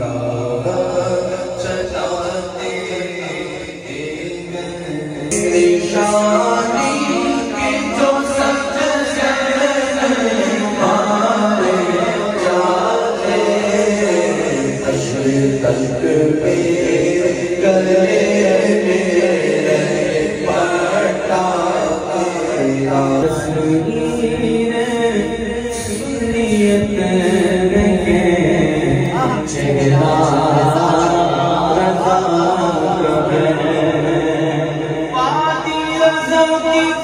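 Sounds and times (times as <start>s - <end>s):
men singing unaccompanied hymn: 0.0s - 37.0s.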